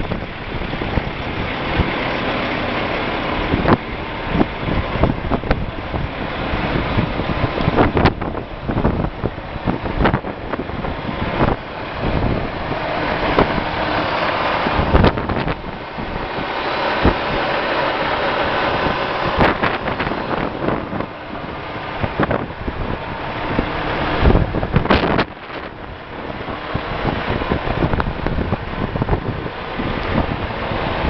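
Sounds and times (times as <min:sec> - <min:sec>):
steady rushing noise: 0:00.0 - 0:31.0
wind buffeting microphone: 0:00.0 - 0:31.0.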